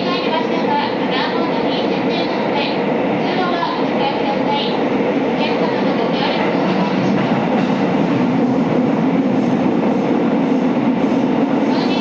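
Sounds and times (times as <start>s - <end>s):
electric train rumbling in tunnel: 0.0s - 12.0s.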